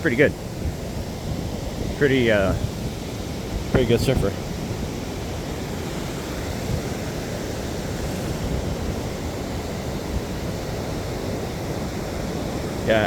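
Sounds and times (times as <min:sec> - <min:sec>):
ocean surf washing onto beach: 0:00.0 - 0:13.0
wind rumbling on microphone: 0:00.0 - 0:13.0.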